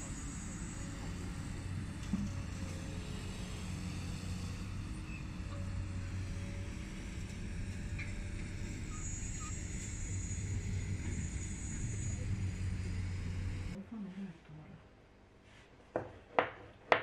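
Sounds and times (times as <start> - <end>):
vehicle and machinery rumble: 0.0 - 13.8.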